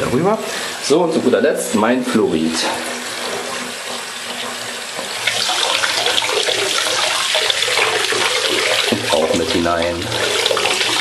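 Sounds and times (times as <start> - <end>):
water running from bathtub tap: 0.0 - 11.0.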